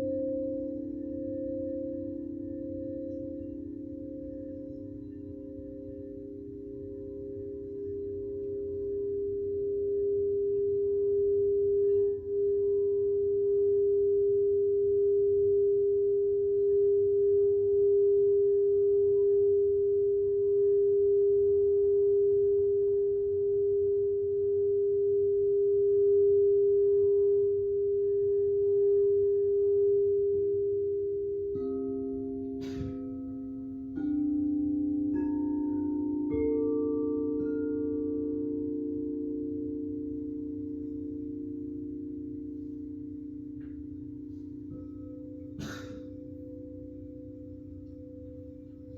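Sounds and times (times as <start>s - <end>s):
singing bowl rim tone: 0.0s - 48.9s.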